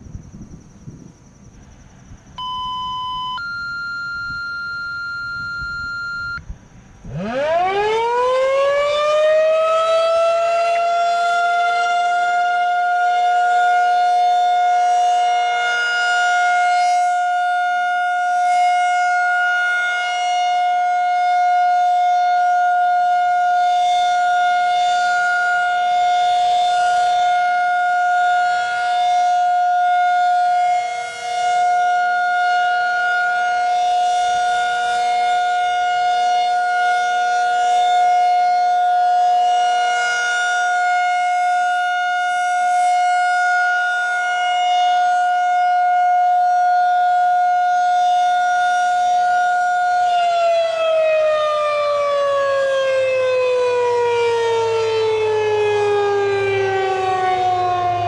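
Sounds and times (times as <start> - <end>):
rotating warning siren: 0.0 - 58.0.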